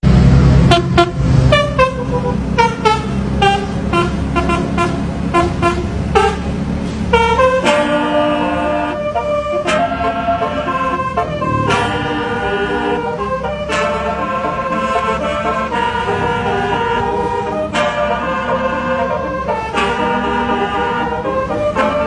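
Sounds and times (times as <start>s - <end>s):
bus engine humming: 0.0s - 22.0s
bus air horn melody: 0.1s - 22.0s.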